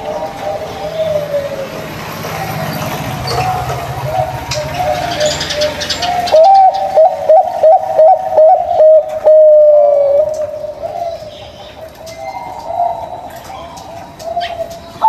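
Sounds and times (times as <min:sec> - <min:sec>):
doves cooing: 0:00.0 - 0:15.0
low hum and hiss: 0:00.0 - 0:15.0
bird clipped coo notes: 0:02.4 - 0:15.0.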